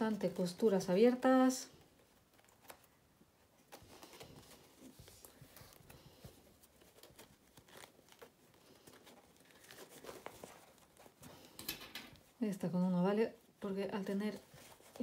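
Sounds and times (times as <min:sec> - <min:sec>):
fabric rustling: 0:00.0 - 0:12.5, 0:13.2 - 0:15.0.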